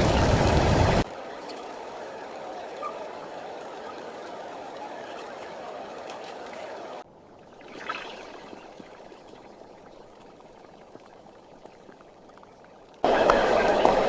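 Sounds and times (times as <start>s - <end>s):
water pouring and trickling: 0.0s - 2.8s, 3.6s - 13.1s.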